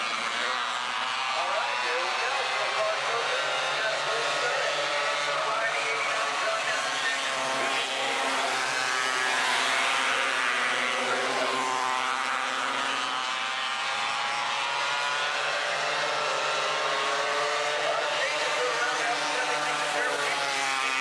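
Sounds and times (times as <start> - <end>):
racing car engines at high revs: 0.0 - 21.0.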